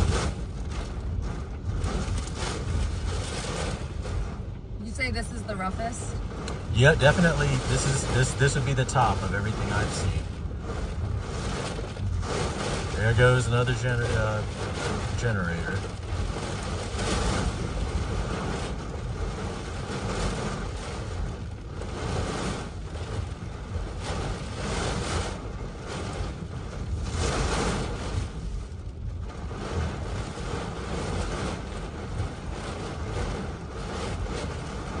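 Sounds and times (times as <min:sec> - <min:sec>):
driving rain: 0:00.0 - 0:35.0
heavy low buffeting: 0:00.0 - 0:35.0
wind rushing: 0:00.0 - 0:35.0.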